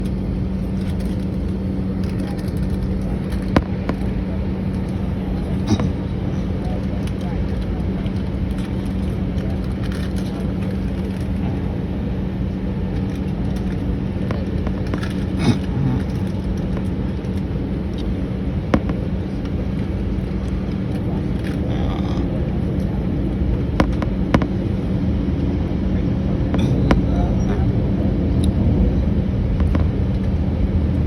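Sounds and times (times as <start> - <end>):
aircraft cabin rumble: 0.0 - 31.0.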